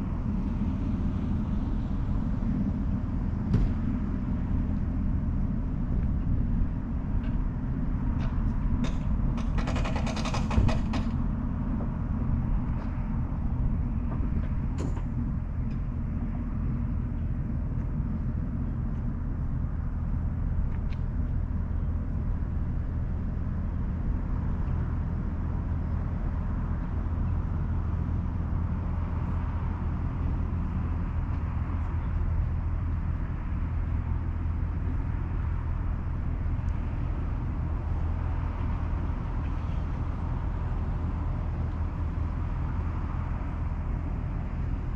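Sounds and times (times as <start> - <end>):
vehicle engine running at low revs: 0.0 - 44.9.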